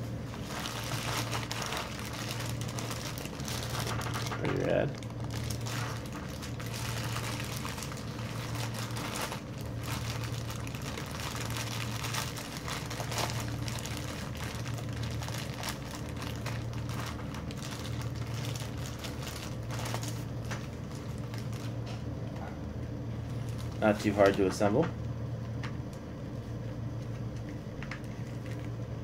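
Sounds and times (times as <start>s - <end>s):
plastic bag crinkling: 0.0s - 22.0s, 23.2s - 24.6s, 27.8s - 28.8s
steady low hum: 0.0s - 29.0s.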